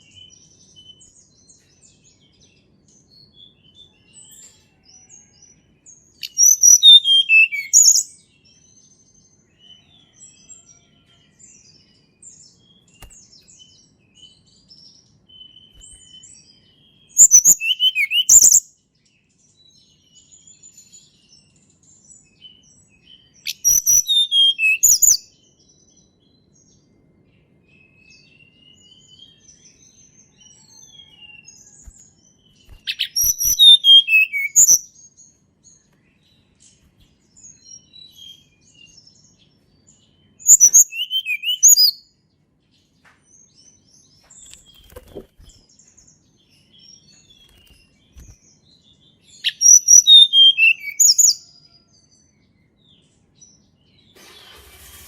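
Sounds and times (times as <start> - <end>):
bird song with descending notes: 0.0 - 18.6, 19.2 - 54.5
faint bird chirps: 0.0 - 54.8.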